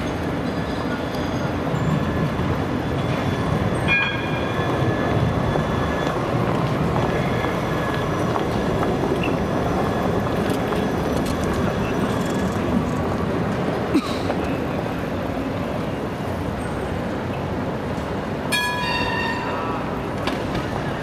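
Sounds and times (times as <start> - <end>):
tram rumbling on track: 0.0 - 21.0.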